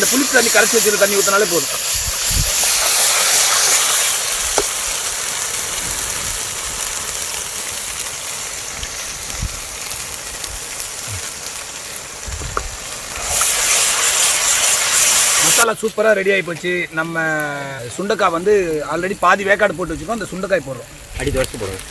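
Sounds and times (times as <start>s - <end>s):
sauce sizzling in hot oil: 0.0s - 21.9s.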